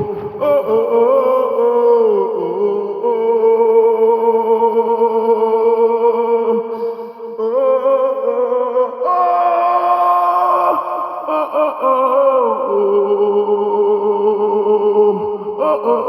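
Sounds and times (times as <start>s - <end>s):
sustained layered vocal notes: 0.0s - 16.0s.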